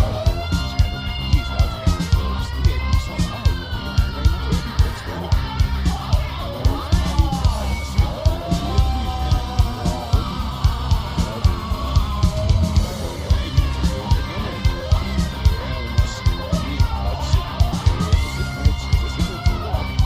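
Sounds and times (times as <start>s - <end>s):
guitar: 0.0s - 20.0s
singing: 0.0s - 20.0s
steady drum beat: 0.0s - 20.0s.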